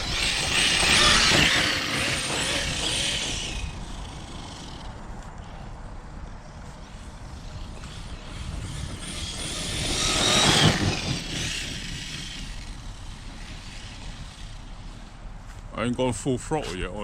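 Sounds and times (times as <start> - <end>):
rc truck electric motor whining: 0.0 - 5.7, 6.4 - 15.2.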